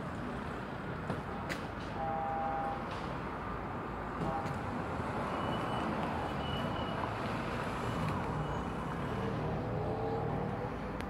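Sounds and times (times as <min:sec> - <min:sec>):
cars driving past: 0:00.0 - 0:11.0
road noise: 0:00.0 - 0:11.0.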